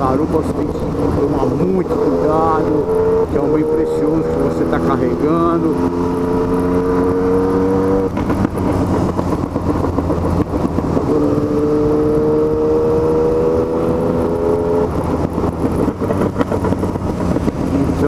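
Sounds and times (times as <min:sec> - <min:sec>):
motorcycle engine: 0:00.0 - 0:18.0
wind and road noise: 0:00.0 - 0:18.0.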